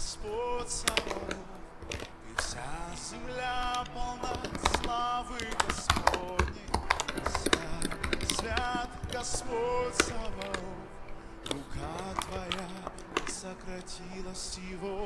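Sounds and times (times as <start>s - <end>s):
background music with held notes: 0.0s - 15.0s
computer keyboard typing: 0.6s - 14.7s.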